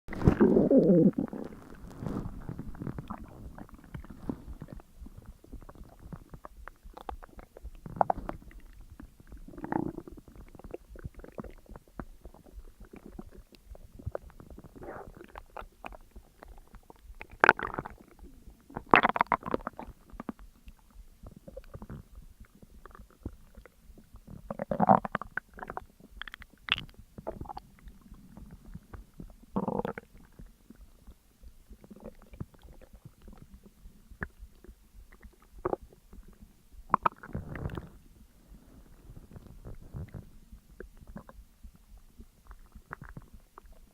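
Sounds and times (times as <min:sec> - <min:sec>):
stomach gurgling and rumbling: 0:00.1 - 0:43.9.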